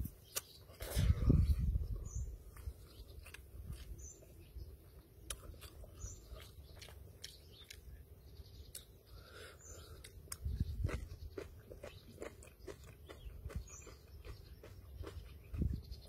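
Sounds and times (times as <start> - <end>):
man chewing noodles: 0.0 - 16.0.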